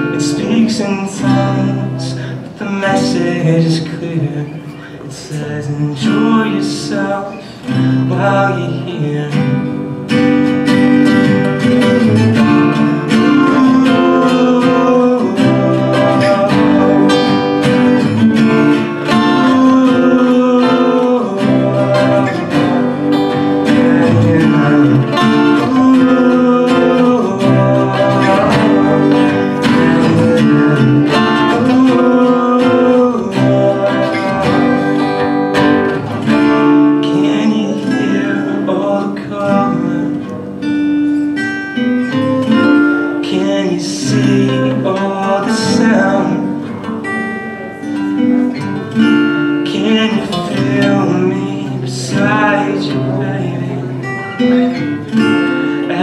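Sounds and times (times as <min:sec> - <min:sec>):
acoustic guitars playing chords: 0:00.0 - 0:56.0.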